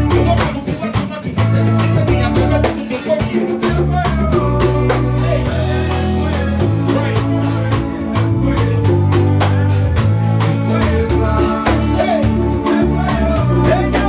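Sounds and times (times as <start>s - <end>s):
drum kit beat: 0.0s - 14.0s
electric guitars: 0.0s - 14.0s
keyboard: 0.0s - 14.0s
low bass notes: 0.0s - 14.0s.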